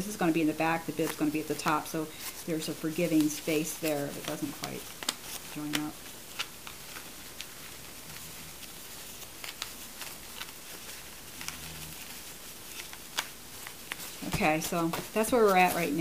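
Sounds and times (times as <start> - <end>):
diapers rustling and crinkling: 0.0 - 16.0.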